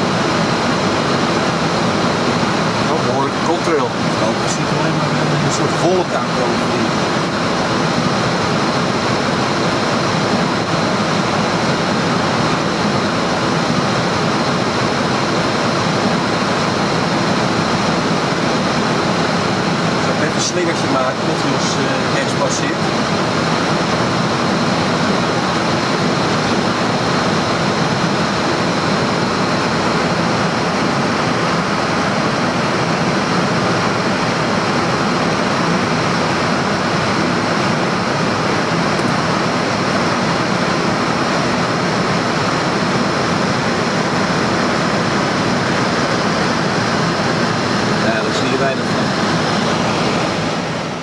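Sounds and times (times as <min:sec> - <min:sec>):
airflow rushing around cockpit: 0:00.0 - 0:51.0
cockpit air conditioning: 0:00.0 - 0:51.0
faint high steady whine: 0:00.0 - 0:51.0.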